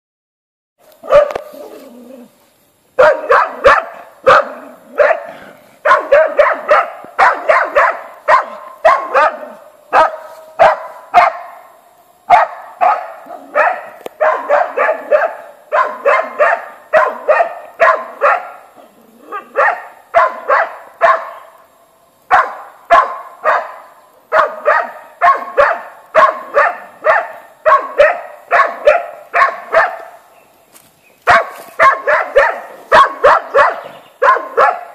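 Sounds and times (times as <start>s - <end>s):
dog barking high-pitched: 1.0s - 1.6s, 3.0s - 11.7s, 12.3s - 21.6s, 22.3s - 30.2s, 31.2s - 34.9s.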